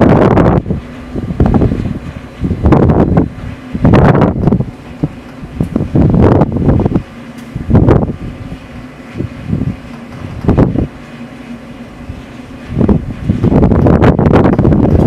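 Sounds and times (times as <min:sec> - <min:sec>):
wind buffeting microphone: 0:00.0 - 0:11.2, 0:11.9 - 0:15.0
low mechanical hum: 0:00.0 - 0:15.0.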